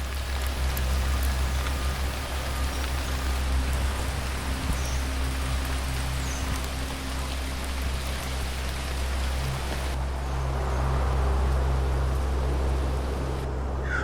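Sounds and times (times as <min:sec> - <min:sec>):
low hum: 0:00.0 - 0:14.0
steady rain: 0:00.0 - 0:14.0.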